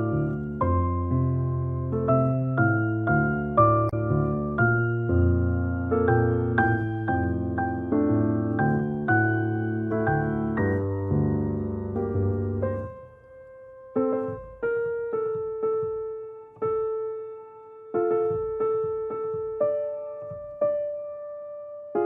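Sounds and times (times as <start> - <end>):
gentle solo piano: 0.0 - 22.0.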